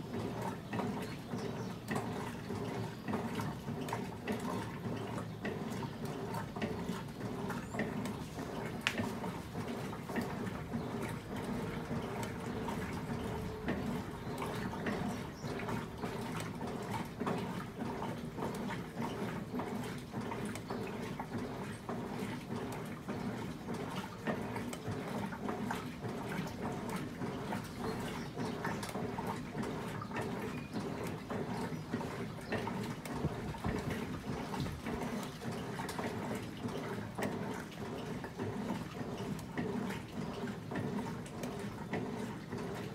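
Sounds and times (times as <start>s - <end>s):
washing machine churning water: 0.0s - 42.9s.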